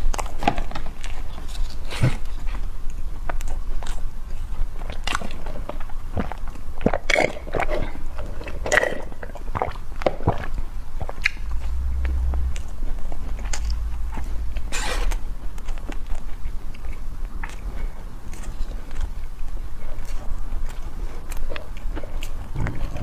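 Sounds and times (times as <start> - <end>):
chewing with mouth smacks: 0.0 - 23.0.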